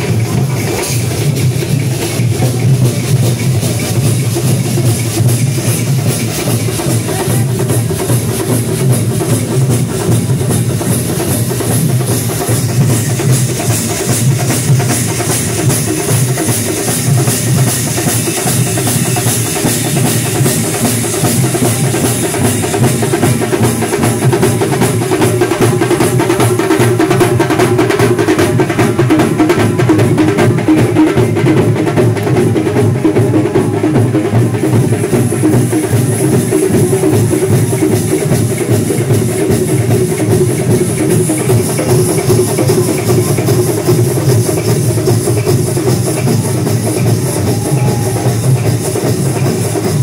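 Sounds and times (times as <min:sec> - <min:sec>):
massed booming drumming: 0:00.0 - 0:50.0.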